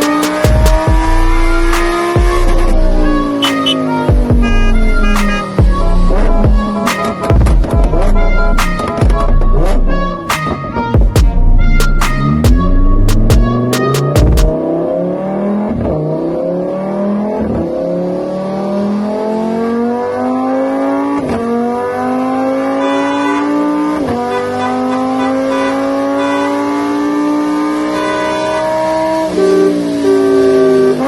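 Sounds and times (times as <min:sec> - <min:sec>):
car engine accelerating through gears: 0:00.0 - 0:31.0.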